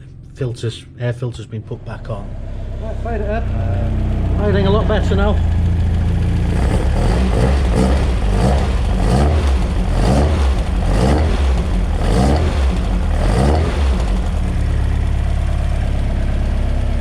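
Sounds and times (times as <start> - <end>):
car engine idling unevenly: 1.7 - 17.0.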